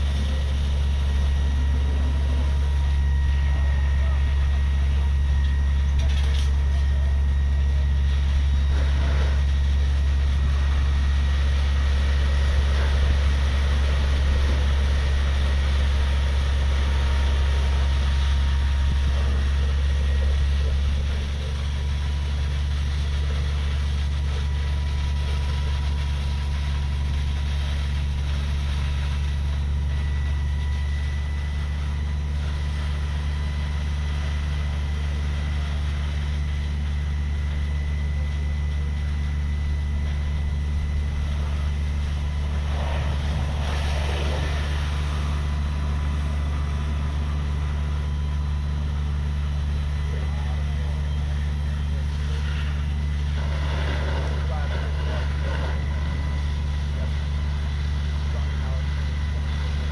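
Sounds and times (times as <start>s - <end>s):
faint steady whine: 0.0s - 59.9s
fire truck engine droning: 0.0s - 59.9s.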